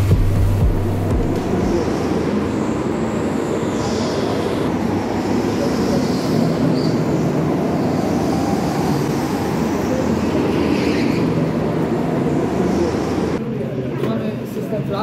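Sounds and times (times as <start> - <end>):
go-karts engines droning: 1.3 - 13.9.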